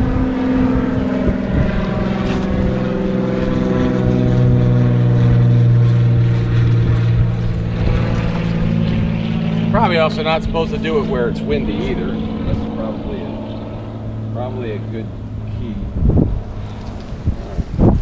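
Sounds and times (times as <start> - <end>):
motor droning: 0.0 - 18.0.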